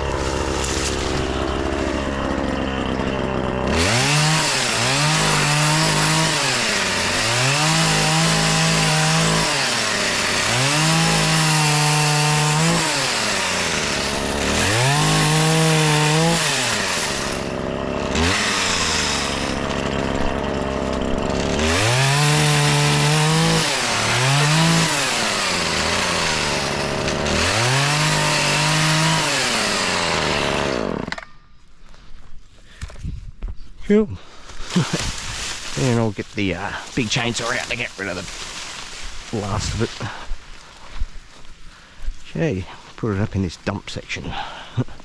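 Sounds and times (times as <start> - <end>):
chainsaw cutting wood: 0.0 - 31.5, 34.4 - 41.1.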